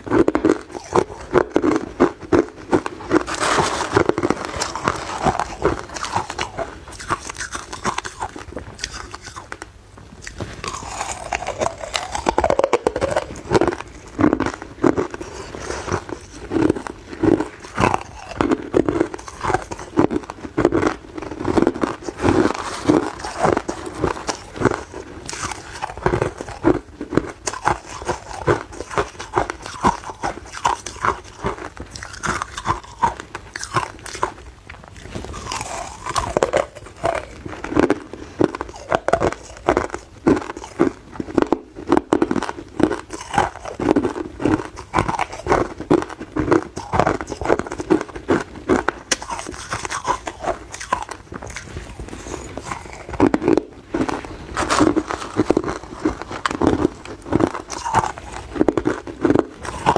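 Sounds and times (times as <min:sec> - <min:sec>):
person crunching ice cubes: 0:00.0 - 0:59.9.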